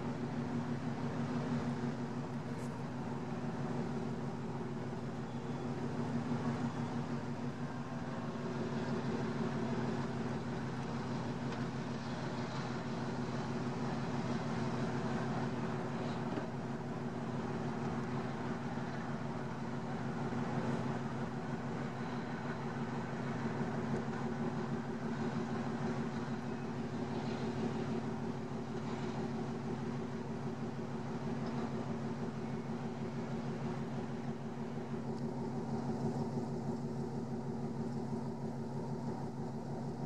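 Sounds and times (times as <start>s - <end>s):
heavy engine running: 0.0s - 40.0s.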